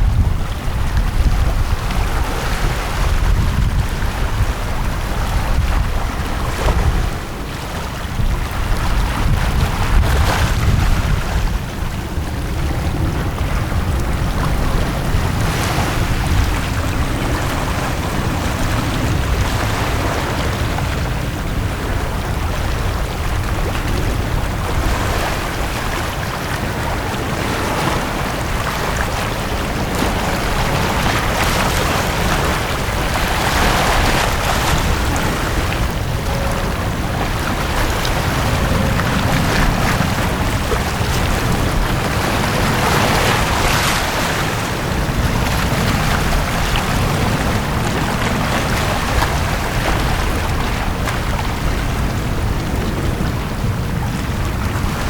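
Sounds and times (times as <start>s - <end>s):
sea waves washing onto beach: 0.0s - 55.0s
wind rumble on microphone: 0.0s - 55.0s.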